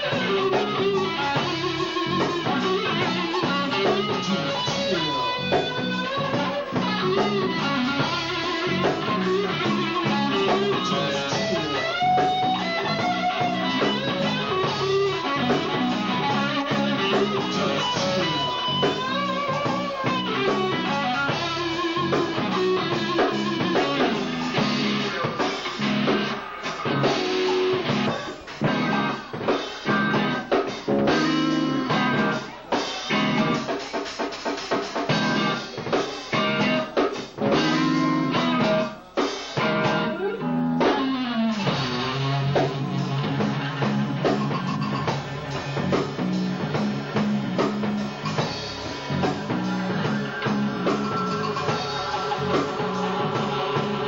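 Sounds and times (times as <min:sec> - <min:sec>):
electric bass: 0:00.0 - 0:32.5, 0:33.1 - 0:33.7, 0:35.0 - 0:39.0, 0:39.6 - 0:54.0
drum kit: 0:00.0 - 0:54.0
electric guitars: 0:00.0 - 0:54.0.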